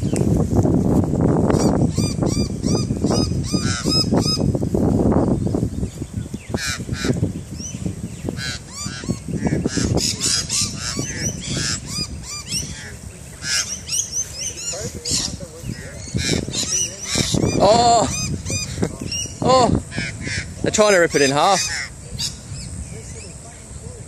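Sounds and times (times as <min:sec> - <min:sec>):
birds calling harsh notes: 0:00.0 - 0:00.4, 0:01.2 - 0:24.0.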